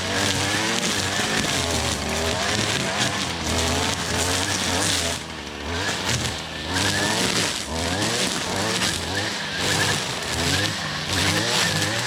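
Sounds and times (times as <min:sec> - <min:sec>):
string trimmer revving: 0:00.0 - 0:12.0.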